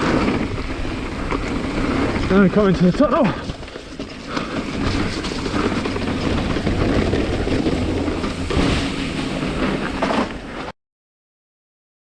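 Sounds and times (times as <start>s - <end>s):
bike rattling over rough ground: 0.0s - 10.7s
bike tyres rumbling on trail: 0.0s - 10.7s.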